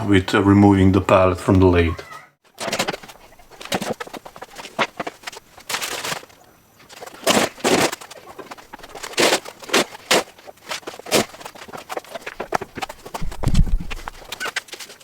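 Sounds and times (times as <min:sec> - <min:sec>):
scraping: 0:02.5 - 0:15.0.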